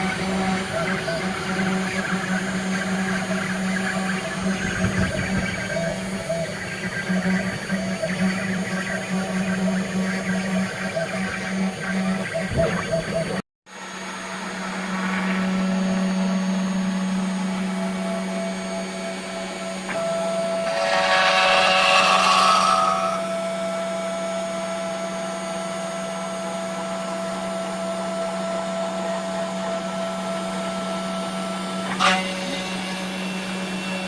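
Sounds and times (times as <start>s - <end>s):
router cutting wood: 0.0s - 34.0s
router spindle hum and whine: 0.0s - 34.0s.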